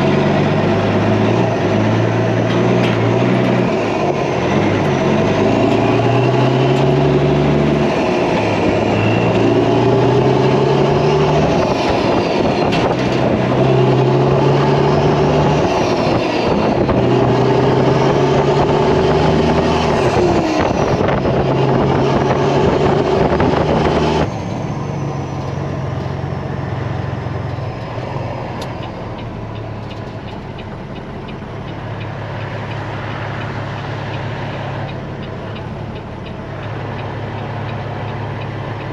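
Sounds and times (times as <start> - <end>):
diesel truck engine shifting gears: 0.0 - 38.9.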